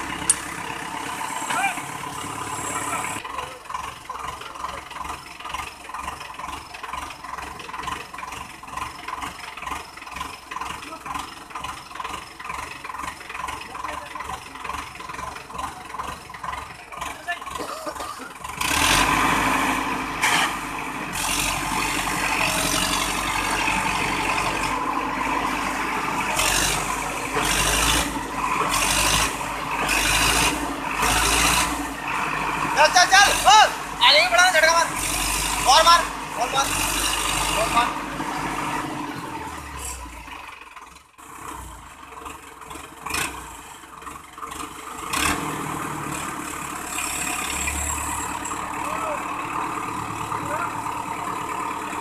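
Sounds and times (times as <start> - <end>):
tractor diesel engine idling: 0.0 - 52.0.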